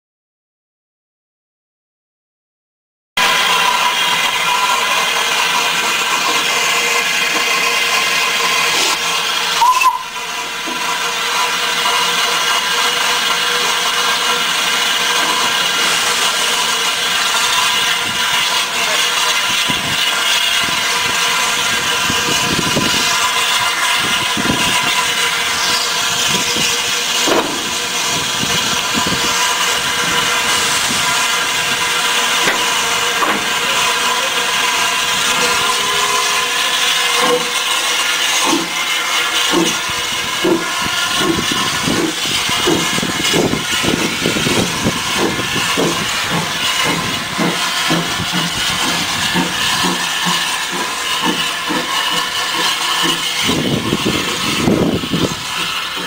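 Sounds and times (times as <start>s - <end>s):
steam hissing: 3.2s - 56.0s.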